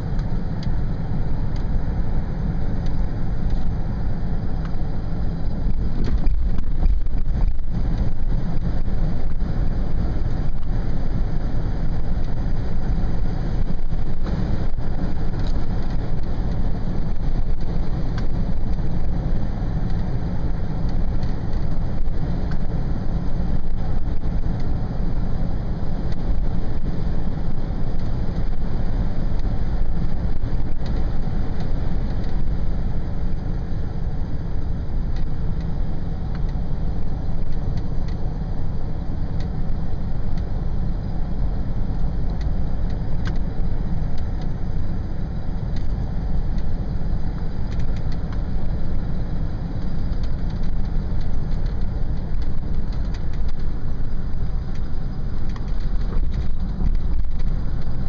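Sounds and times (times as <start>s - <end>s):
car interior road and wind noise: 0.0s - 58.0s.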